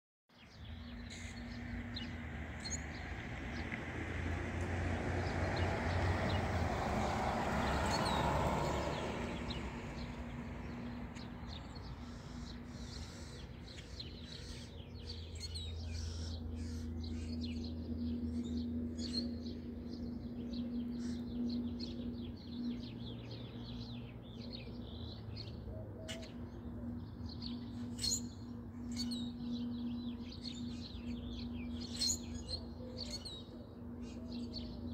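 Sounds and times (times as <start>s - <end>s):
small birds chirping: 0.3s - 3.8s, 7.6s - 34.9s.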